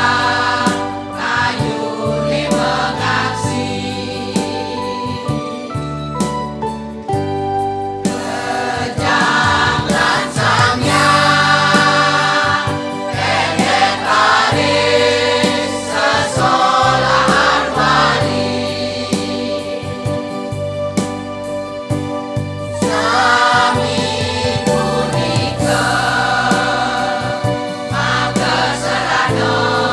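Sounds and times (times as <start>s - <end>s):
choir singing in unison: 0.0s - 5.4s, 8.2s - 20.2s, 22.8s - 29.9s.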